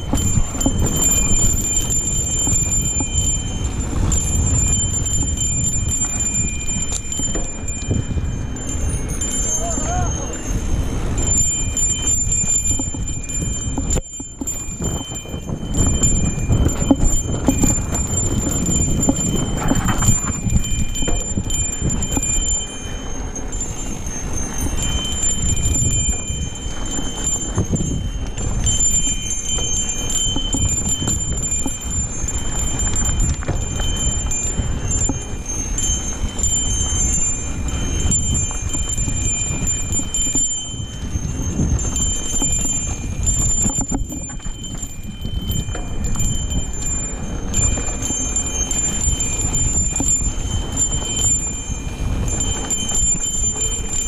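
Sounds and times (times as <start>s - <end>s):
bike rattling over rough ground: 0.0s - 54.0s
high ringing tone: 0.0s - 54.0s.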